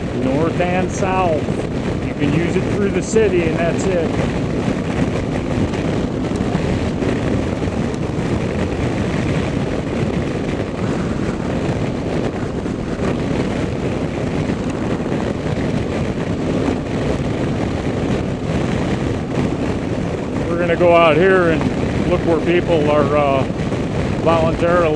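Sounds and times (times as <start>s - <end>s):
car road and engine noise: 0.0s - 24.9s.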